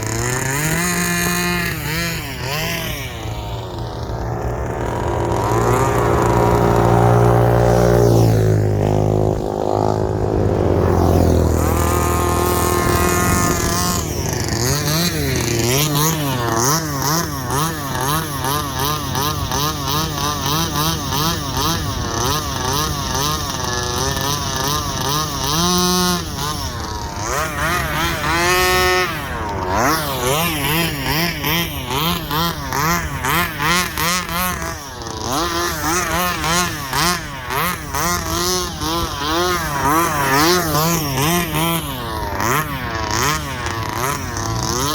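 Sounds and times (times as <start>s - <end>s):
small two-stroke engine revving: 0.0s - 44.9s.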